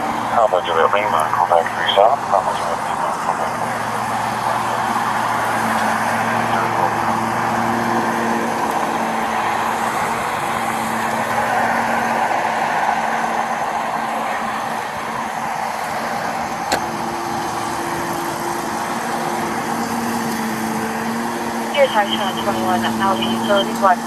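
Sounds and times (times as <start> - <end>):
low engine hum: 0.0 - 24.0
road traffic passing: 0.0 - 24.0.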